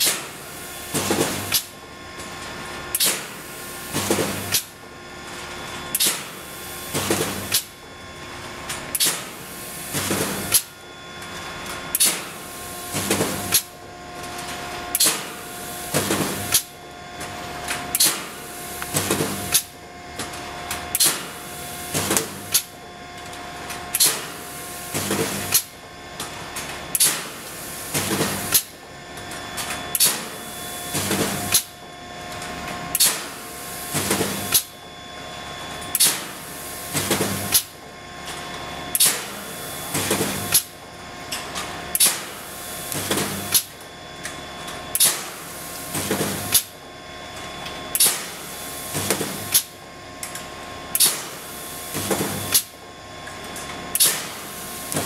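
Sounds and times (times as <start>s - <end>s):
welding machine clack: 0.0s - 2.3s, 2.9s - 4.8s, 5.9s - 7.8s, 8.7s - 10.8s, 11.7s - 31.8s, 32.9s - 34.8s, 35.9s - 46.8s, 47.6s - 55.0s
steady machine whine: 0.0s - 55.0s.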